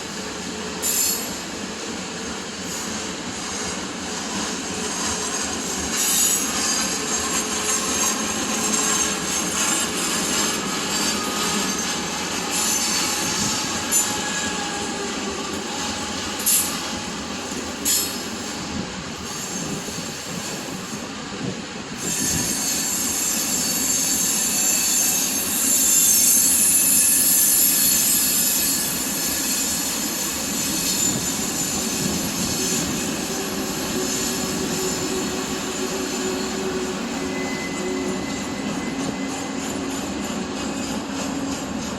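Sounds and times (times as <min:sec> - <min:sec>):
freight train cars rolling: 0:00.0 - 0:41.9
steel wheels squealing on rail: 0:00.0 - 0:41.9.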